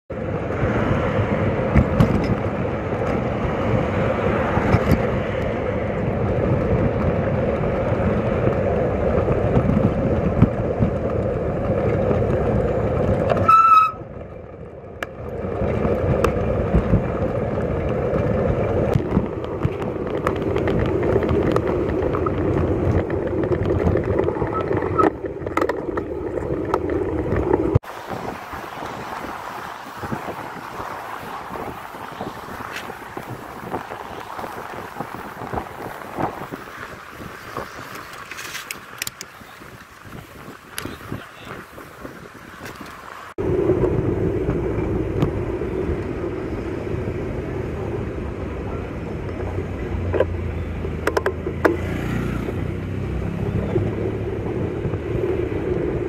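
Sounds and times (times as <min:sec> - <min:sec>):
road traffic: 0:00.1 - 0:56.0
wind and rattle: 0:00.1 - 0:56.0.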